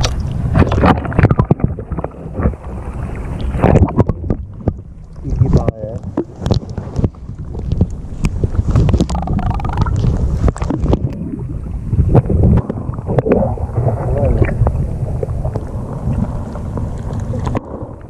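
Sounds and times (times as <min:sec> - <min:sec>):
muffled underwater sloshing: 0:00.0 - 0:18.0.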